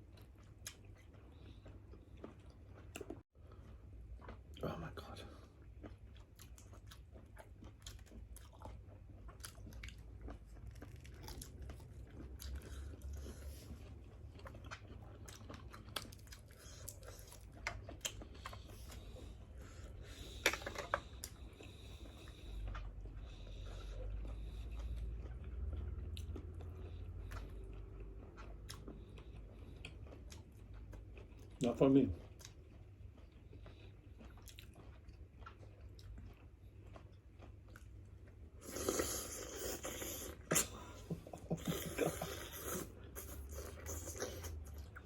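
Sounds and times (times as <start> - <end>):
person chewing food: 0.0 - 45.0.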